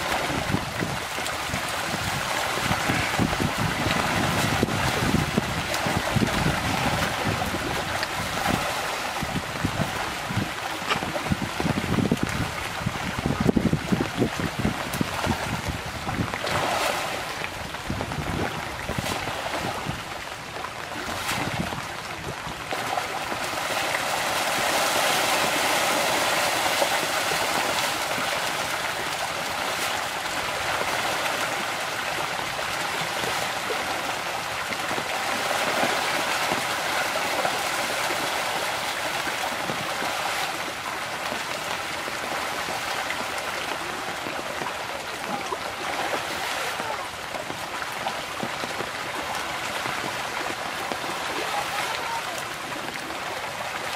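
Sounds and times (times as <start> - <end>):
fish thrashing and splashing: 0.0 - 12.8, 14.5 - 53.7.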